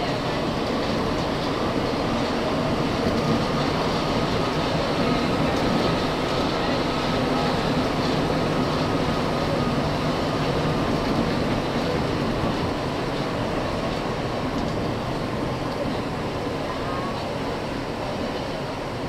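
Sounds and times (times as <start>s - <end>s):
train standing with hum and hiss: 0.0s - 19.0s.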